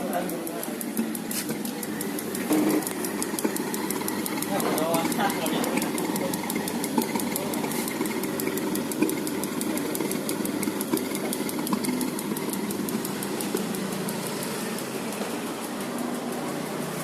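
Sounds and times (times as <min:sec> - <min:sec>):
clothes dryer humming: 0:00.0 - 0:17.0
fast even ticking: 0:00.0 - 0:17.0.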